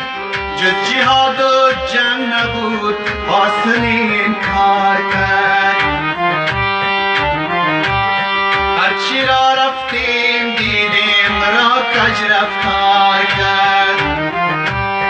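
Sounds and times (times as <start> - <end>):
hand drum rhythm: 0.0 - 15.0
wavering lead melody: 0.0 - 15.0
sustained chords: 2.1 - 15.0.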